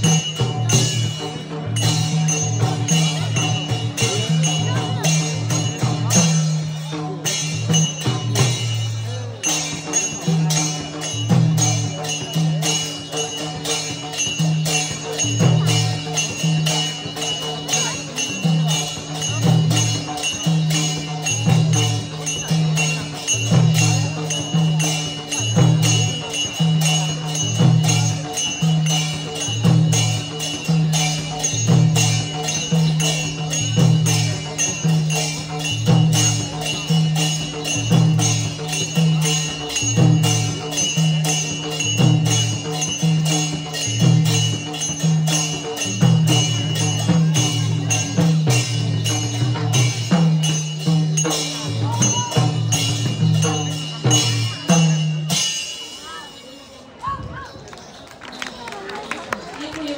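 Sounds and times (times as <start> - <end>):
drums beating low pattern: 0.0 - 55.4
small cymbals striking: 0.0 - 59.9.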